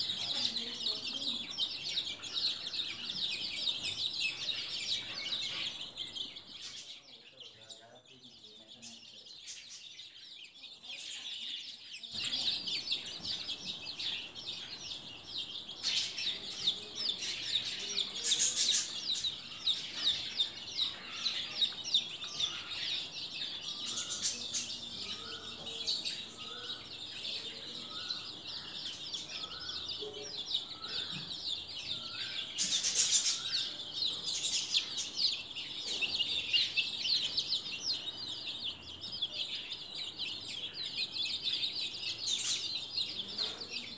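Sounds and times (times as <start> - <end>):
chicks peeping: 0.0 - 43.9.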